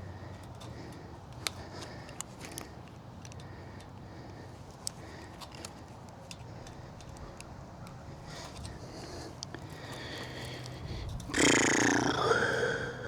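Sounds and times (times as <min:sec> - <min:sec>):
fence wire and tools clicking: 0:00.2 - 0:12.5.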